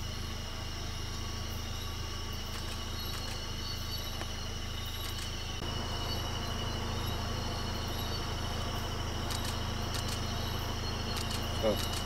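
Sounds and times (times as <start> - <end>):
night insects chorus: 0.0 - 12.0
vehicle engine idling: 0.0 - 12.0.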